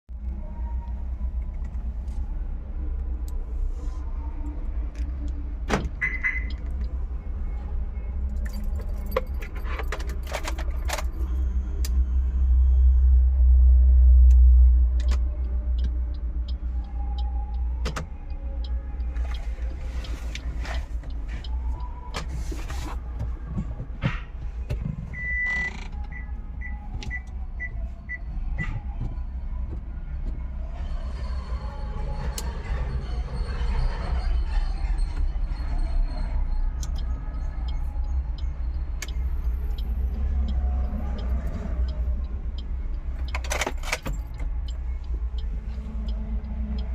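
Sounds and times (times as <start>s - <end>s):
car engine rumbling: 0.1s - 46.9s.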